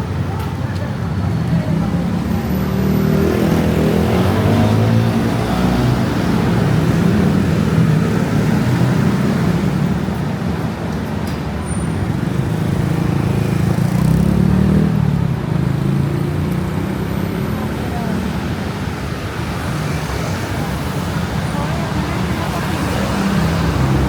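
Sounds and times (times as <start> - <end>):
passing car engines: 1.2 - 24.0.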